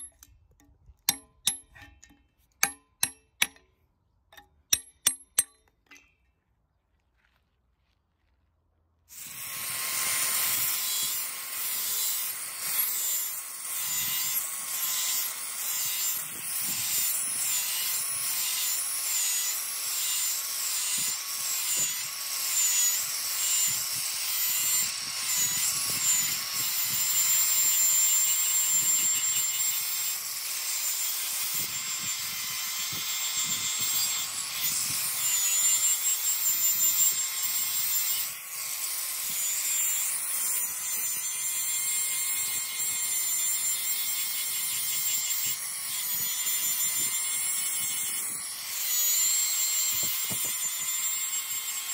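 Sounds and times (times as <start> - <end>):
angle grinder grinding metal: 9.1 - 51.9.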